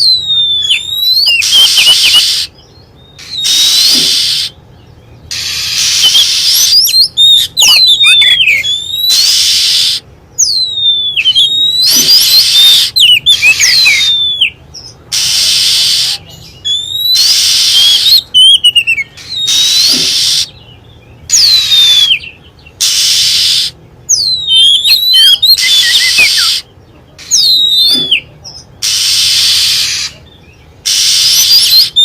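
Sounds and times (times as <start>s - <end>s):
harsh rasping bird calls: 0.0s - 32.0s
whistled bird notes: 0.0s - 32.0s.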